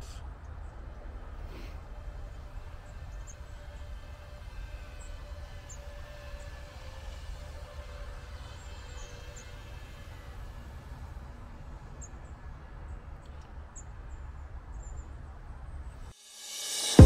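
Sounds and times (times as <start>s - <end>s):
drone motors whining: 0.0s - 13.7s.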